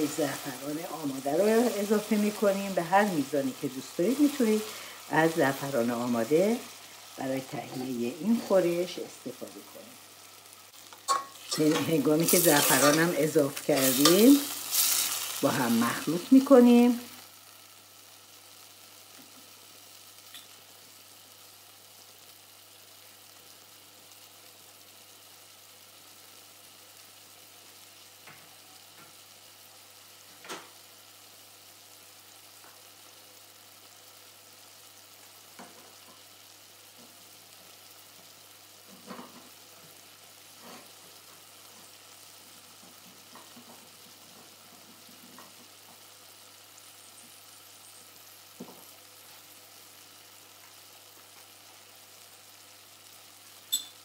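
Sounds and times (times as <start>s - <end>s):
chicken sizzling in a pot: 0.0s - 54.0s.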